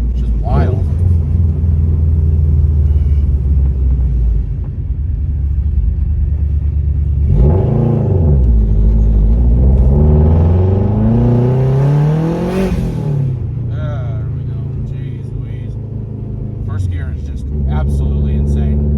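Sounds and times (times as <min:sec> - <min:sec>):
loud car exhaust accelerating: 0:00.0 - 0:18.9.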